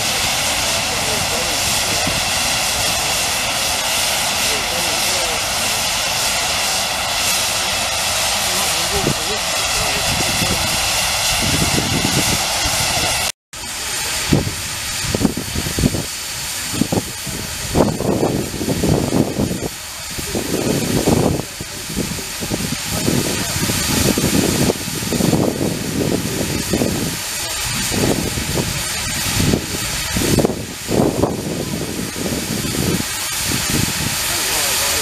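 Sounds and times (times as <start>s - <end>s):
low rumbling surges: 0.0s - 35.0s
steam traction engine hissing: 0.0s - 35.0s.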